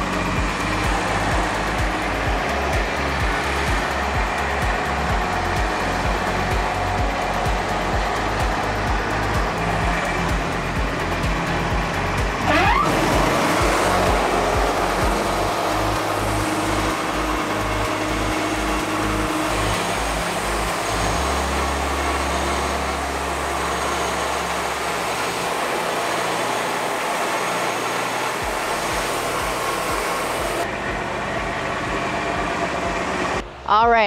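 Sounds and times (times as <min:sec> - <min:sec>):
sawmill engine running: 0:00.0 - 0:33.8
background music with bass beat: 0:00.0 - 0:34.0.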